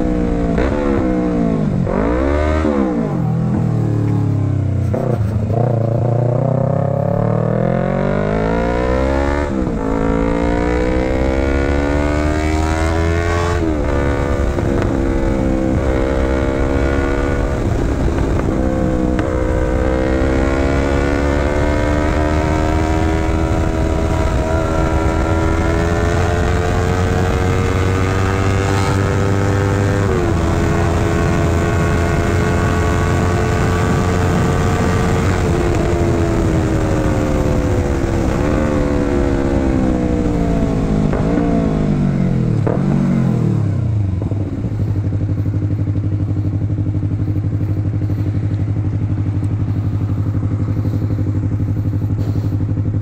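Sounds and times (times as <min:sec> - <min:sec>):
motorcycle engine accelerating: 0:00.0 - 0:53.0
wind rumble on microphone: 0:00.0 - 0:53.0.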